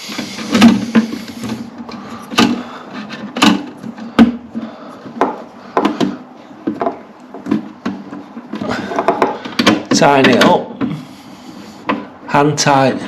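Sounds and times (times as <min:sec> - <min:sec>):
plastic parts knocking and clicking: 0:00.1 - 0:11.0, 0:11.8 - 0:12.1.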